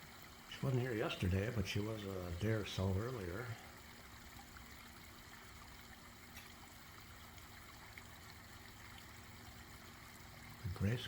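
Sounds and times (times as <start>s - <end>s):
faint waterfall trickle: 0.0s - 11.0s.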